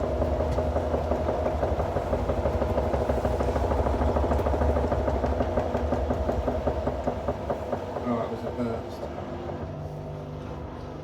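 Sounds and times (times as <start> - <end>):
washing machine spinning: 0.0 - 9.8.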